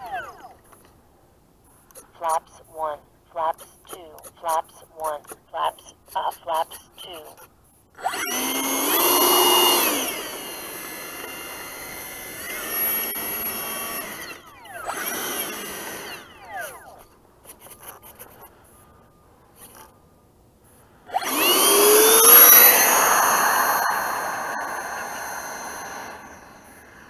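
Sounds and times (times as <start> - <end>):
electric ducted fan whine: 0.0 - 3.3, 7.0 - 17.5, 18.2 - 27.0.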